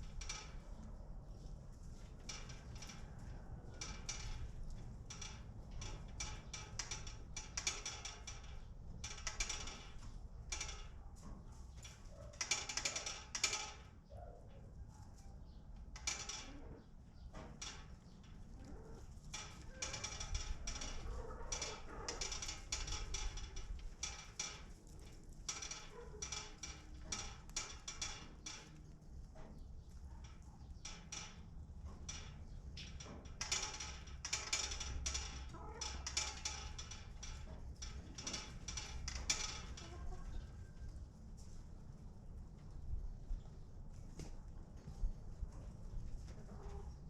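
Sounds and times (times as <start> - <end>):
chickens clicking and scratching: 0.0 - 47.0.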